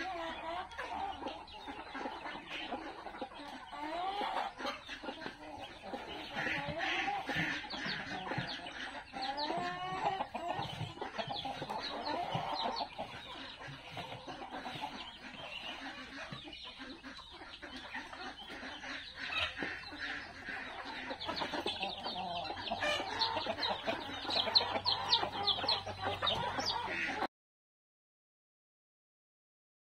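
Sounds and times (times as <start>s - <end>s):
chickens clucking and calling: 0.0s - 27.3s.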